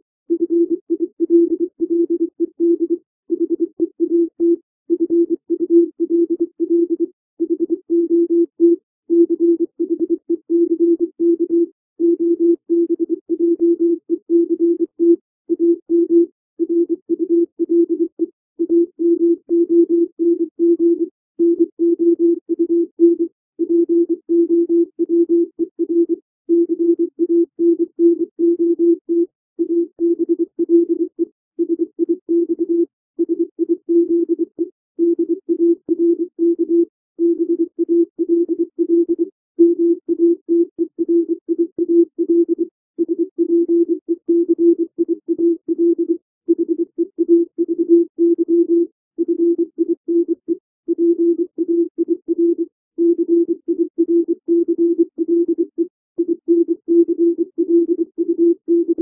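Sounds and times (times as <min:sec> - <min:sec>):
morse code tone: 0:00.3 - 0:59.0.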